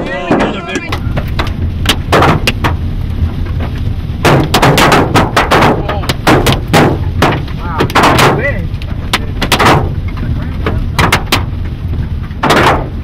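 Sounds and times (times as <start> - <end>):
hailstones striking a vehicle: 0.0 - 13.0
steady low rumble: 0.0 - 13.0.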